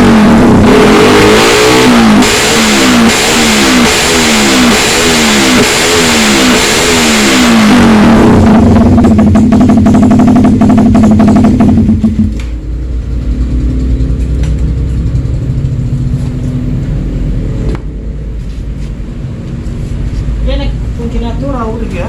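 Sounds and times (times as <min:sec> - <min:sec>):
motorcycle engine revving: 0:00.0 - 0:20.3.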